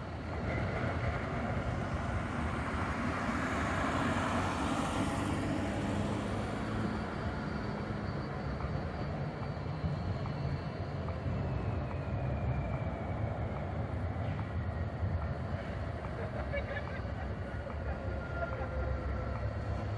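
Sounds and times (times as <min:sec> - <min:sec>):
city traffic rumble: 0:00.0 - 0:19.9.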